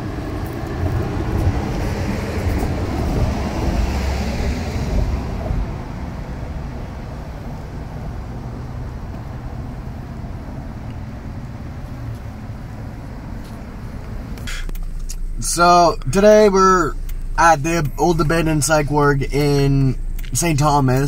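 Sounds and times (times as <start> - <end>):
steady low rumble: 0.0 - 21.0
vehicle passing: 0.0 - 21.0.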